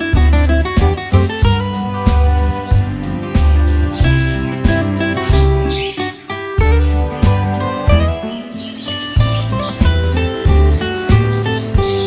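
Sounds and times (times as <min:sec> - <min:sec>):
upbeat instrumental with plucked guitar: 0:00.0 - 0:12.0.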